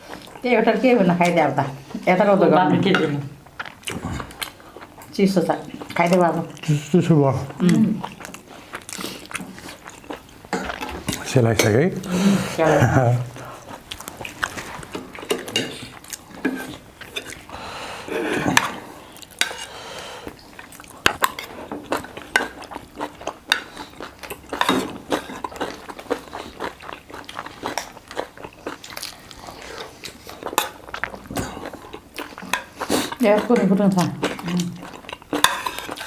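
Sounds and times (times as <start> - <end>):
chewing: 3.4 - 11.4, 13.2 - 36.0.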